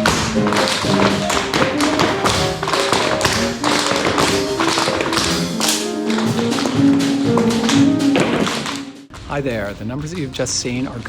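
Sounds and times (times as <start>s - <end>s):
tap shoes striking floor: 0.0s - 9.0s
show tune music: 0.0s - 9.1s.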